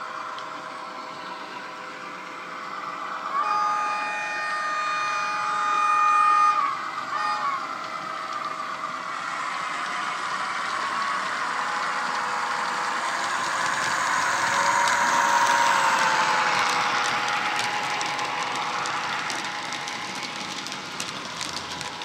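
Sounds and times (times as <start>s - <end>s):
model locomotive diesel engine: 0.0s - 22.0s.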